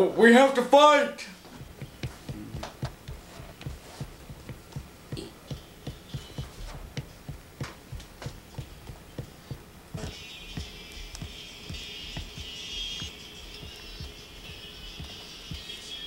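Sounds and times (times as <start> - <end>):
thumping drum beat: 1.5 - 15.8.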